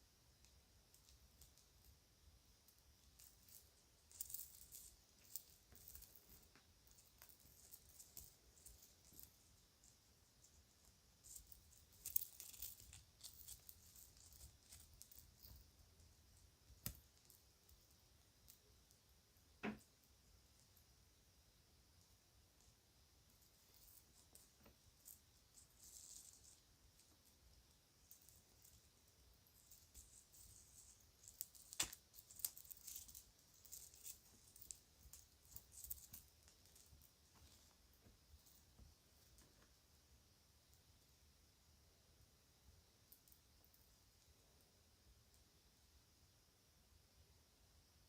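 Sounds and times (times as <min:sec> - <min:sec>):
jewelry clicking and rustling: 0:00.3 - 0:21.0, 0:21.9 - 0:39.9, 0:43.0 - 0:44.7.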